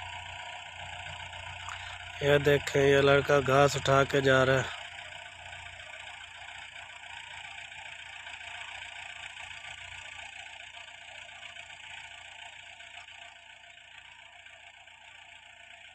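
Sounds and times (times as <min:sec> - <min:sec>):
distant tractor engine running: 0:00.0 - 0:15.9.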